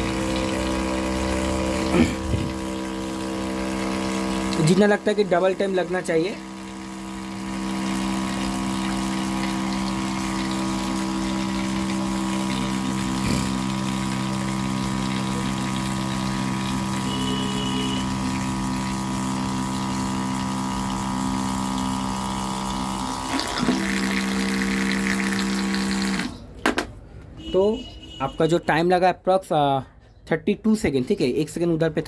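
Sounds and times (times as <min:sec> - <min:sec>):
electric pump humming: 0:00.0 - 0:26.5.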